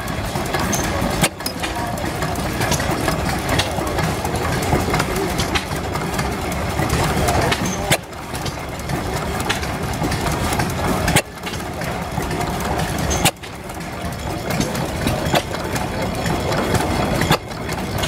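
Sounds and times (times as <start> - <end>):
engine mechanical clatter: 0.0 - 18.0.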